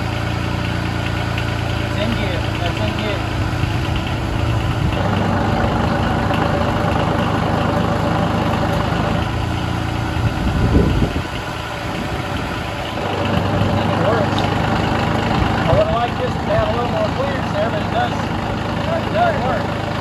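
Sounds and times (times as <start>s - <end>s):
diesel engine idling and revving: 0.0s - 20.0s.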